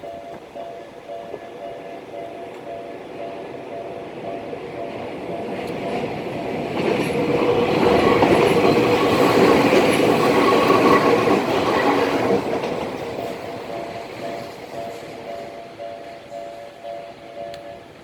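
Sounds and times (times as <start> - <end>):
level crossing warning bell: 0.0 - 18.0
train rumbling and clattering: 0.0 - 18.0.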